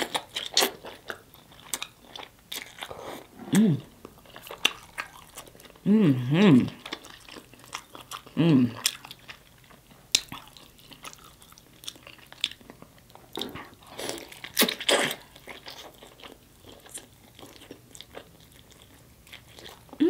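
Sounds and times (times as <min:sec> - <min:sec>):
biting and chewing food: 0:00.0 - 0:05.8, 0:06.6 - 0:20.0.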